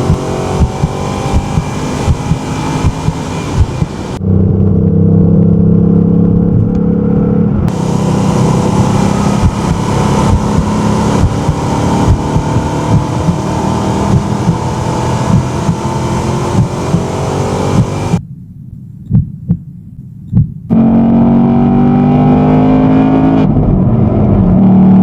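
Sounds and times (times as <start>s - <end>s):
car engine accelerating: 0.0s - 18.2s, 20.7s - 25.0s.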